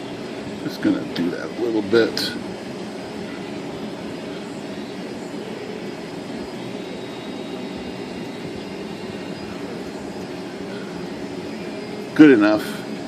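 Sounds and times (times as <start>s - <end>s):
ventilation rushing hum: 0.0s - 13.0s.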